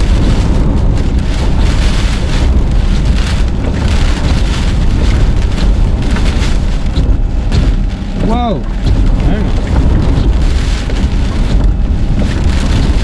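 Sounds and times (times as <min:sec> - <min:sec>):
driving rain: 0:00.0 - 0:13.0
strong gusting wind: 0:00.0 - 0:13.0
wind buffeting microphone: 0:00.0 - 0:13.0.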